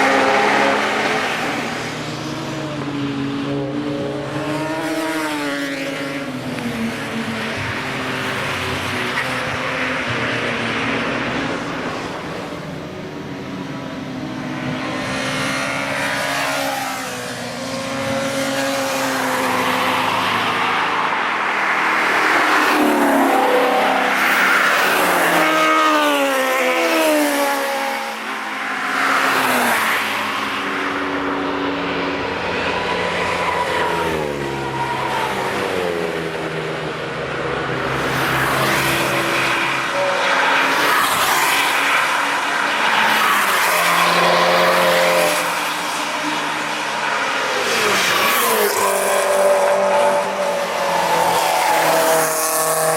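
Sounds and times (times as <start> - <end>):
race cars passing by: 0.0 - 52.9.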